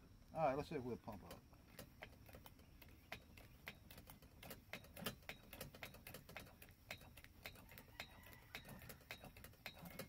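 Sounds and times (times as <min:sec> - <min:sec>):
hand pump clicking: 0:01.1 - 0:10.0.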